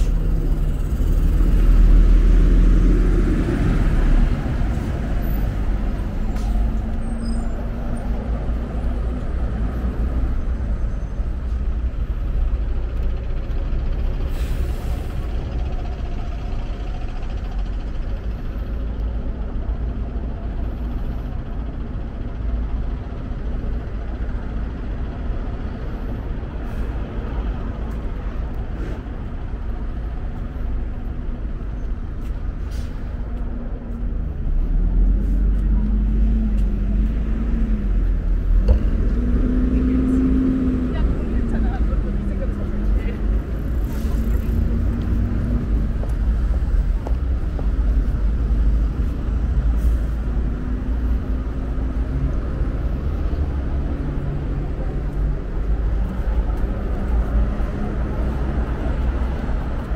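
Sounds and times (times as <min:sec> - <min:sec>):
traffic engines rumbling: 0:00.0 - 0:59.9.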